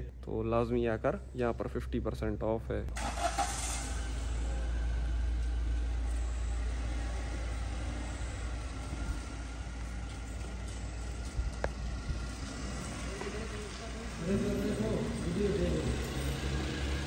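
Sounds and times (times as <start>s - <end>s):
car engine running at low revs: 1.2s - 17.0s.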